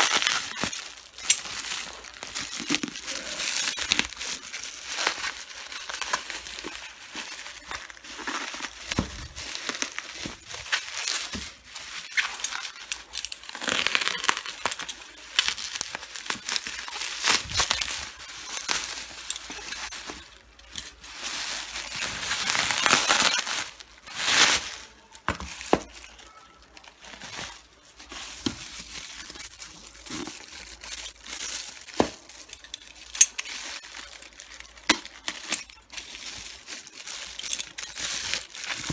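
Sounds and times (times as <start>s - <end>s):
wrapping crinkling and rustling: 0.0s - 38.9s
wrapping tearing: 0.0s - 38.9s.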